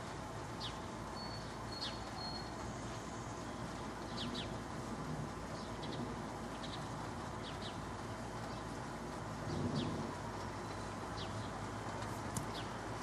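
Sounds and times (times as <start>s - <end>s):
steady background hiss: 0.0s - 13.0s
small birds chirping: 0.5s - 13.0s.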